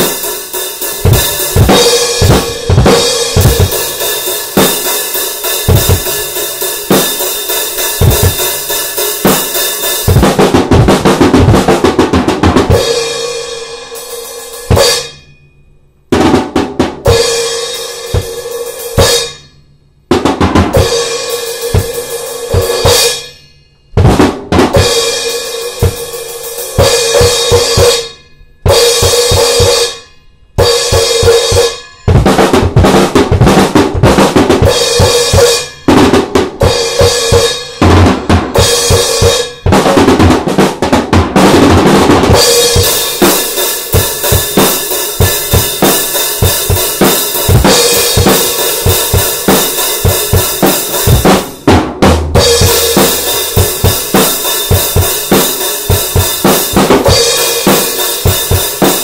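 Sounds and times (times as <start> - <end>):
drum kit playing: 0.0 - 15.2, 16.0 - 19.4, 20.0 - 30.0, 30.6 - 59.0.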